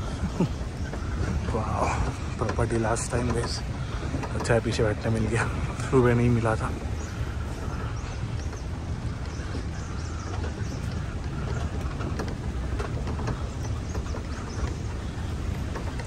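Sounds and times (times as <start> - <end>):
buggy tyres rumbling on path: 0.0 - 16.0
small clicks and rattles: 0.0 - 16.0.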